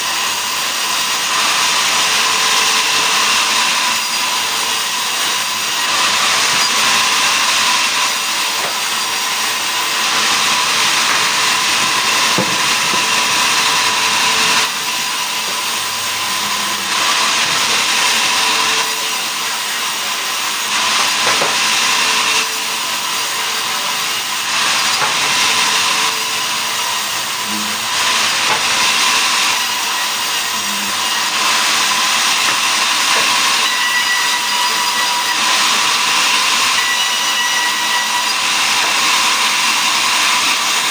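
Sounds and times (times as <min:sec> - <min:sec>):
saw blade whining through wood: 0:00.0 - 0:40.9.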